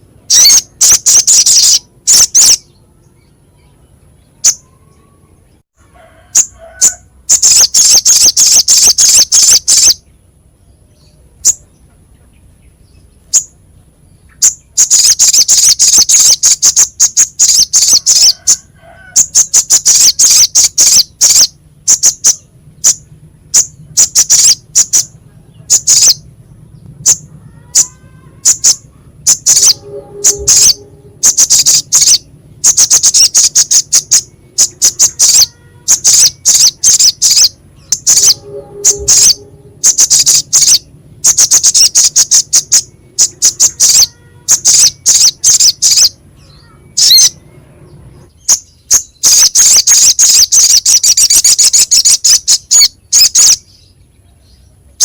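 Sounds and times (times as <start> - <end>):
bird trilling chip notes: 0.0 - 10.1, 12.7 - 54.0.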